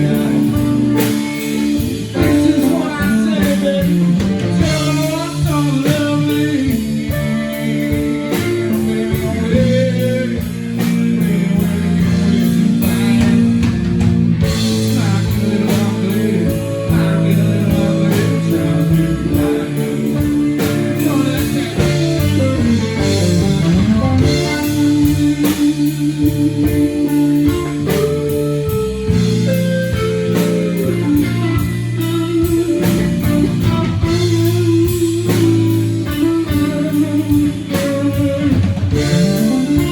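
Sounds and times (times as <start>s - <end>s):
bass guitar: 0.0s - 39.9s
lead electric guitar: 0.0s - 39.9s
steady drum beat: 0.0s - 39.9s.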